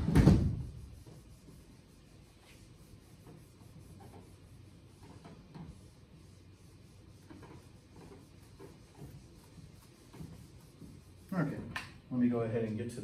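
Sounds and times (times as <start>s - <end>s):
eraser wiping whiteboard: 0.3s - 11.7s.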